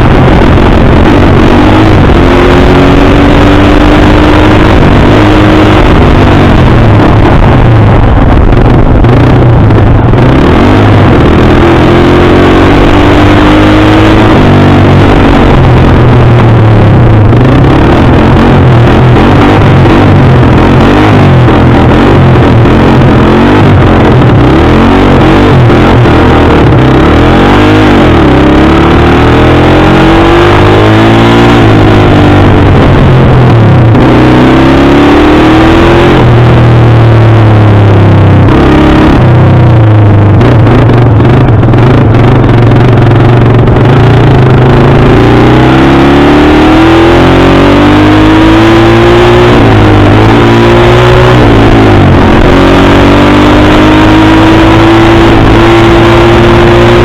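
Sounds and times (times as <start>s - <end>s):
dirt bike engine revving: 0.0s - 16.5s, 17.3s - 39.4s, 40.3s - 57.0s.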